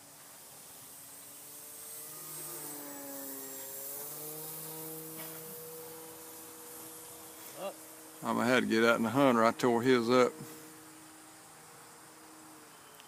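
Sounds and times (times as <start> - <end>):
model plane motor flying past: 0.0 - 13.0.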